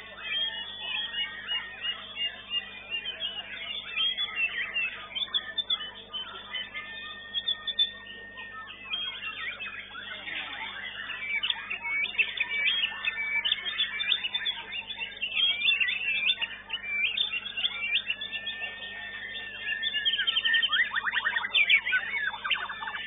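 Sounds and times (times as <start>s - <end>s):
birds singing whistled phrases: 0.0s - 23.0s.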